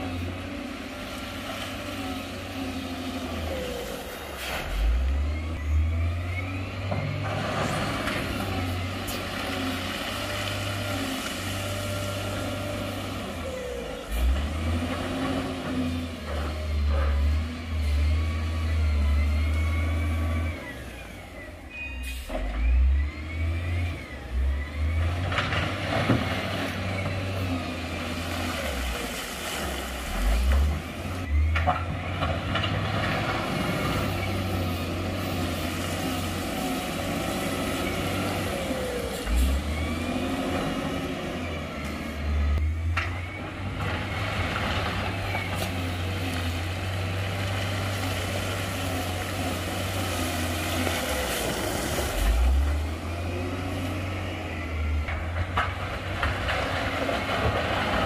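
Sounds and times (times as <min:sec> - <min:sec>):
heavy diesel engines revving: 0:00.0 - 0:58.0.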